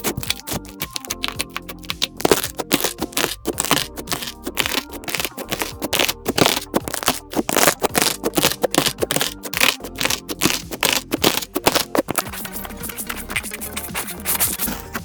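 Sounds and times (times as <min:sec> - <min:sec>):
slime squished by hand: 0:00.0 - 0:12.2.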